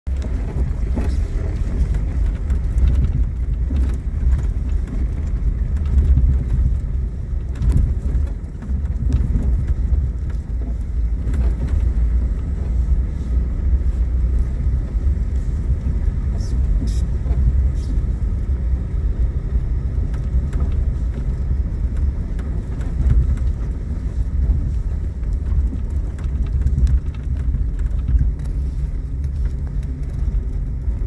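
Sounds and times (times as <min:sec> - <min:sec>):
vehicle engine and tyres rumbling: 0:00.0 - 0:31.0.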